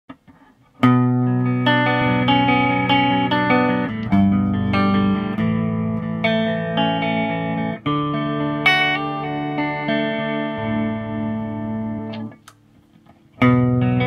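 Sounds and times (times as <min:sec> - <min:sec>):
electric guitar chords: 0:00.8 - 0:12.7, 0:13.3 - 0:14.0.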